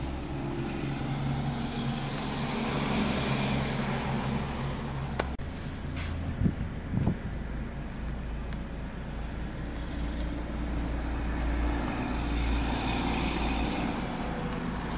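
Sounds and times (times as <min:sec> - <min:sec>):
vehicle engines and traffic rumble: 0:00.0 - 0:14.9.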